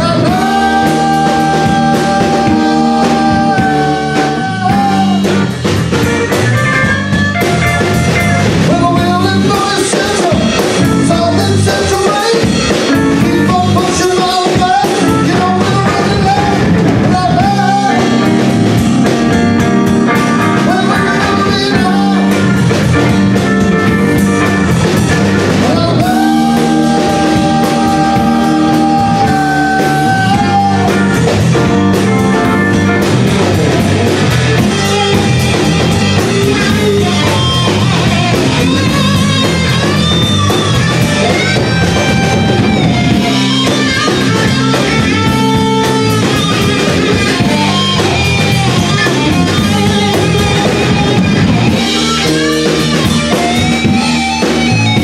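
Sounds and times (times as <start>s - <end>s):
bending lead guitar notes: 0.0s - 55.0s
live rock band playing: 0.0s - 55.0s.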